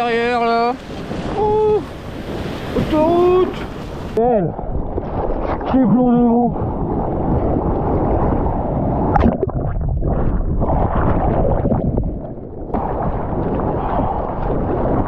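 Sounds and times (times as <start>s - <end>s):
water churning and splashing: 0.0s - 15.0s.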